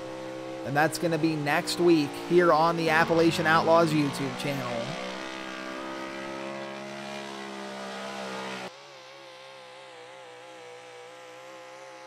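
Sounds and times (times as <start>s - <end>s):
engine with wavering pitch: 0.0s - 12.0s
truck engine at high revs: 0.0s - 12.0s.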